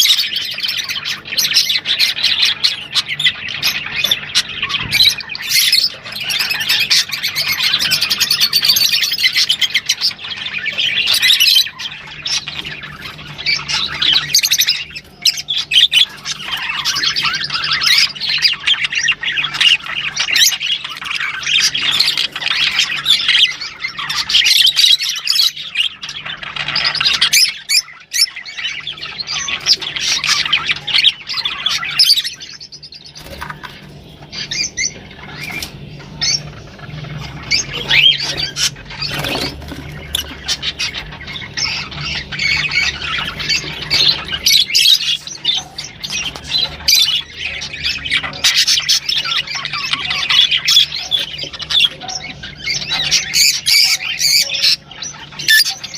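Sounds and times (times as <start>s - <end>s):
lovebirds chattering and squawking: 0.0s - 55.9s.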